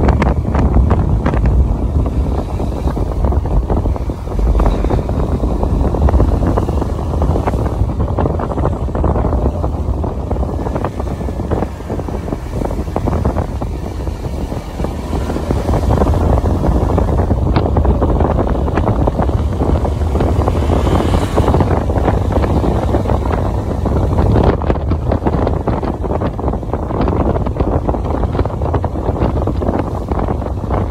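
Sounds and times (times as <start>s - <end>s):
motorbike engine and tyre noise: 0.0s - 30.9s
wind buffeting microphone: 0.0s - 30.9s.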